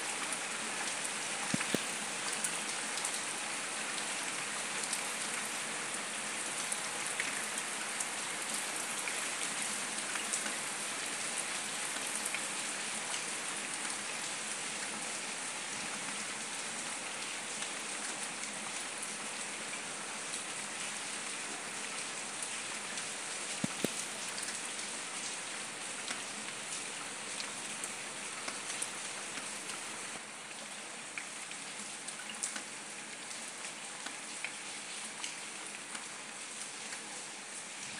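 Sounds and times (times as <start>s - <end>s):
rain on paving stones: 0.0s - 37.9s.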